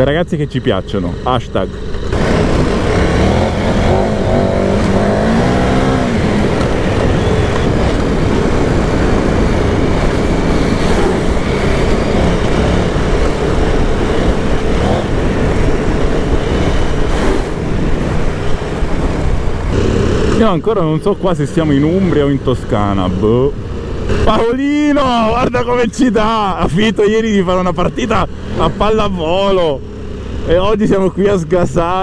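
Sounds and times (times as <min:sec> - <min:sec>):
motorcycle engine revving: 0:00.6 - 0:31.6.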